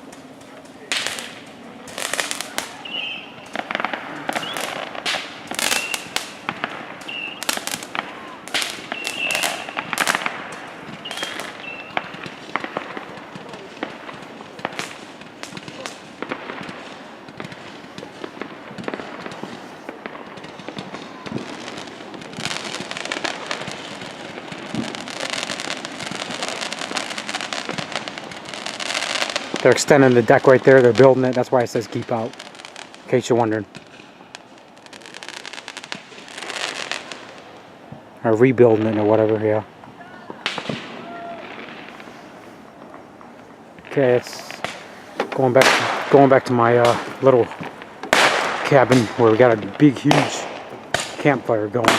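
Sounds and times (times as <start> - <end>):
fireworks bangs and pops: 0.0 - 51.9
steady hiss: 0.0 - 51.9.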